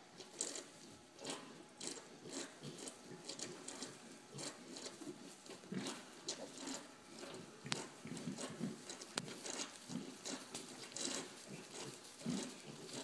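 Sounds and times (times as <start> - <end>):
piglets snuffling in straw: 0.0 - 13.0.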